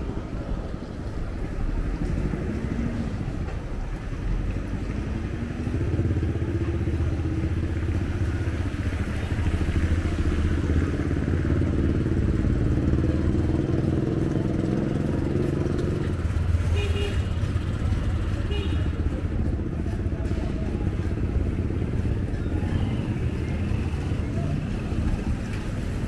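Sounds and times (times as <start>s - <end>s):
street traffic noise: 0.0s - 26.0s
vehicle engine running: 0.8s - 26.0s.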